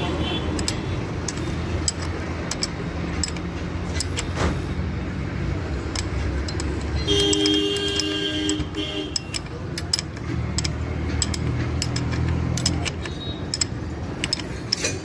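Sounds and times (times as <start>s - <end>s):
sharp metallic clicks and taps: 0.0s - 15.0s.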